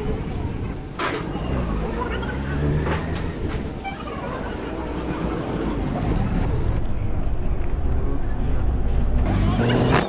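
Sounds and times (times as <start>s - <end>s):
auto-rickshaw engine rumbling: 0.0s - 10.0s.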